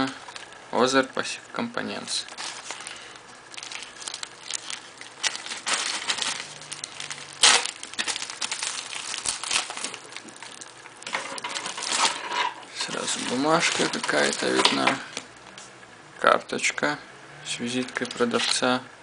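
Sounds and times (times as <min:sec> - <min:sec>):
envelope crinkling and rustling: 0:00.0 - 0:01.2, 0:02.0 - 0:15.3, 0:17.7 - 0:18.6.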